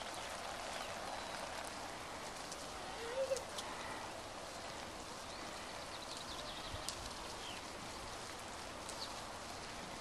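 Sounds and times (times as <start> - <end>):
sprinkler spraying water on grass: 0.0 - 10.0.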